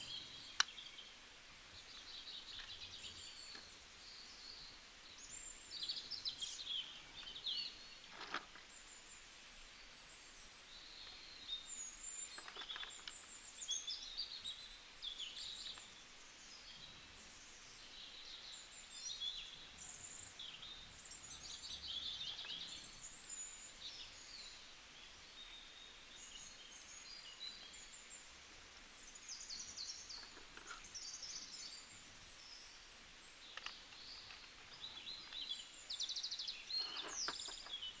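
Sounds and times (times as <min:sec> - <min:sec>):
small birds chirping and trilling: 0:00.0 - 0:38.0.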